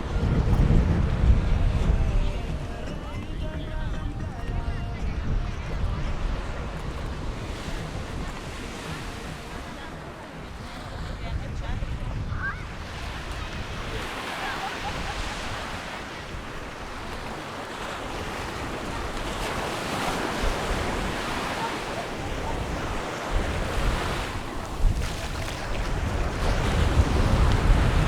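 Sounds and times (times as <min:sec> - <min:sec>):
wind buffeting microphone: 0:00.0 - 0:28.0
waves washing onto beach: 0:05.3 - 0:28.0.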